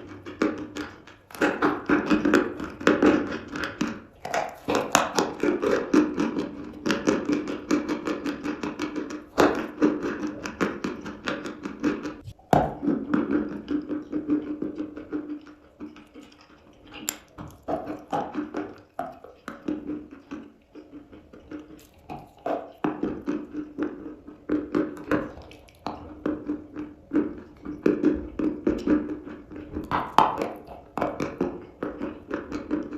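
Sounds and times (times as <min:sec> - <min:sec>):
chalk crunching and chewing: 0:00.0 - 0:32.9.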